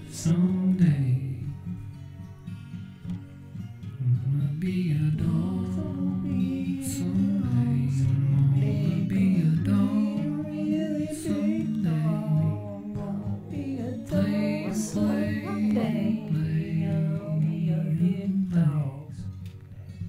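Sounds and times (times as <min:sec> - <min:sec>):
acoustic instrumental song: 0:00.0 - 0:20.0.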